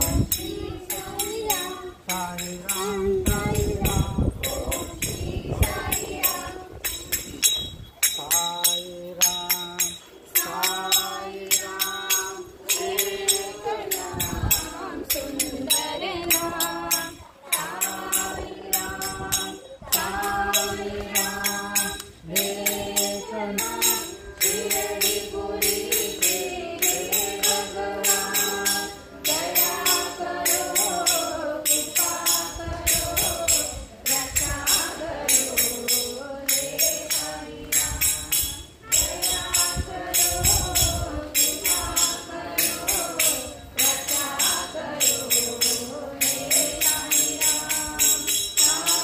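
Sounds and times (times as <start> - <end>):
devotional singing: 0.0 - 49.0
jingling percussion: 0.0 - 49.0.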